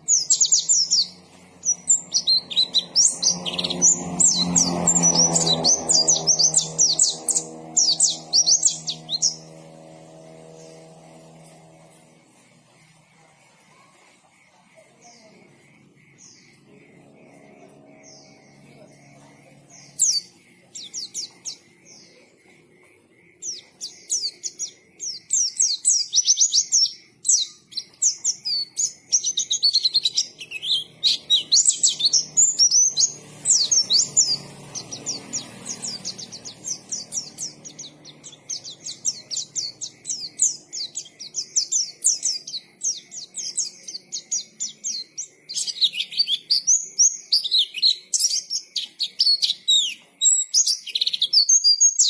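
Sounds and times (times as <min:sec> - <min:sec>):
bird singing high chirps and trills: 0:00.0 - 0:52.0.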